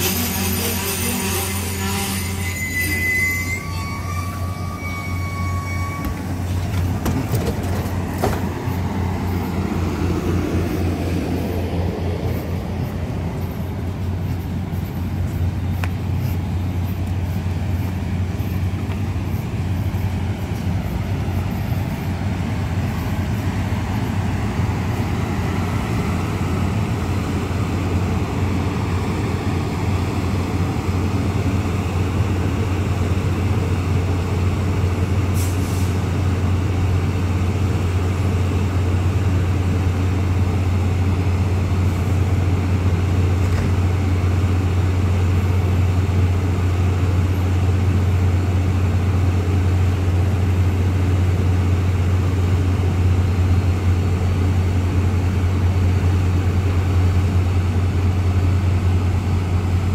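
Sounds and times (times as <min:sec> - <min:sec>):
train humming and rumbling: 0:00.0 - 0:59.9.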